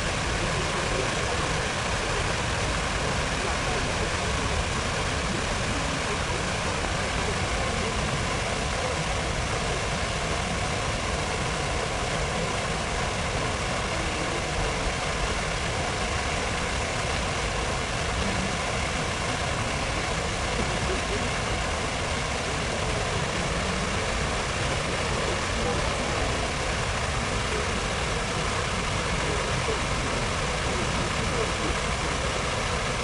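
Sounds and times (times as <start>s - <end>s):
fountain water: 0.0s - 33.0s.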